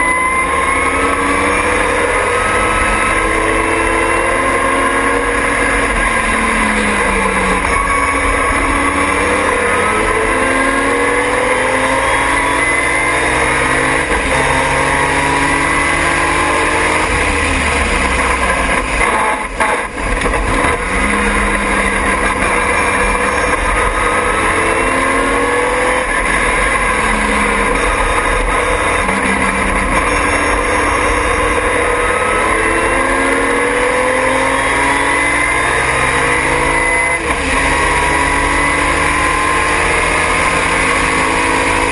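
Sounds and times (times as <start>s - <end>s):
race car engine at full throttle: 0.0s - 41.9s.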